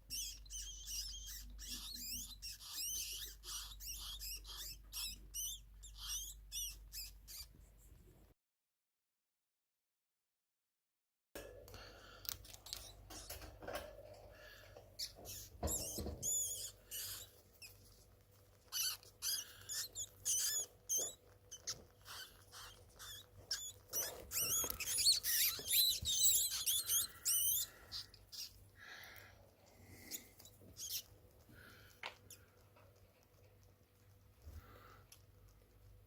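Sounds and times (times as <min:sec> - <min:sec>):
rodent squeaking: 0:00.0 - 0:07.6, 0:12.4 - 0:13.9, 0:14.9 - 0:36.0.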